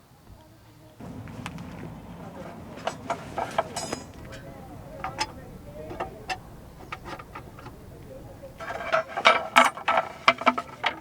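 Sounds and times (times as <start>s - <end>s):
hard objects knocking and clinking: 1.0s - 11.0s
short ringing: 1.0s - 11.0s.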